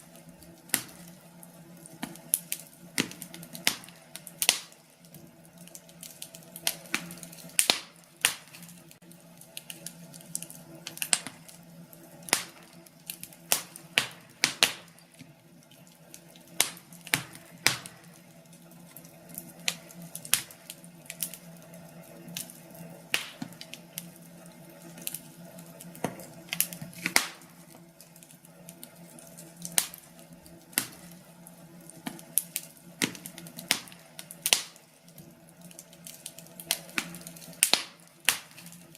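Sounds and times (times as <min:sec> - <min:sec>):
soft steady hiss: 0:00.0 - 0:38.9
wood fire crackling and popping: 0:00.0 - 0:38.9.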